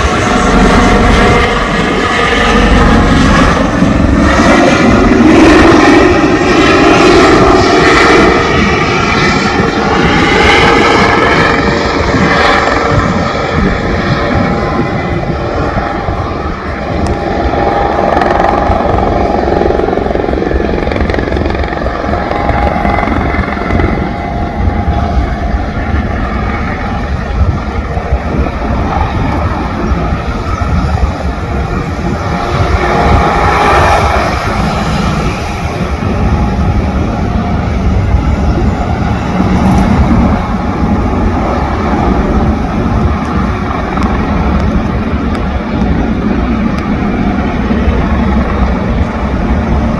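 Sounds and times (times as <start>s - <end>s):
helicopter rotor chopping: 0.0s - 49.9s
turbines whining: 0.0s - 49.9s.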